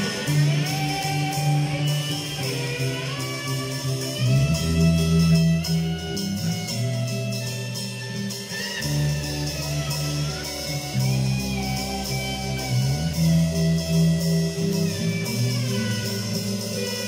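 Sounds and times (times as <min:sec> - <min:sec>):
guitar: 0:00.0 - 0:17.0
sustained bass notes: 0:00.0 - 0:17.0.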